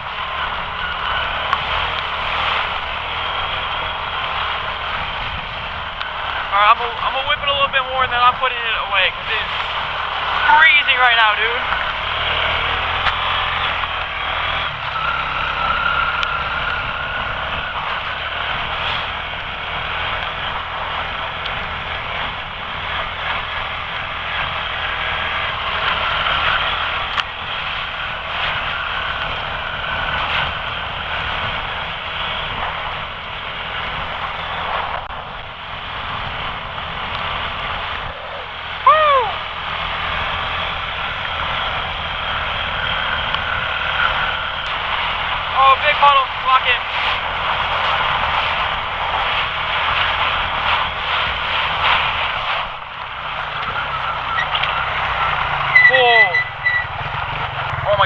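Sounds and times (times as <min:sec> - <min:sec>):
quad engine running: 0:00.0 - 0:58.0
wind and rain on microphone: 0:00.0 - 0:58.0.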